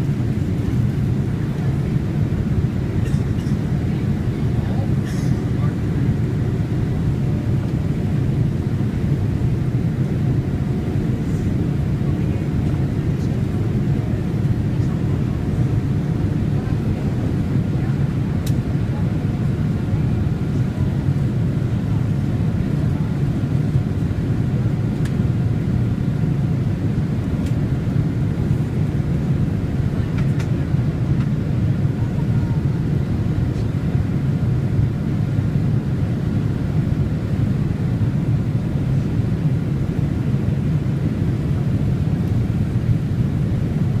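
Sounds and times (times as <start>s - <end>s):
engine and airflow rumble: 0.0s - 44.0s.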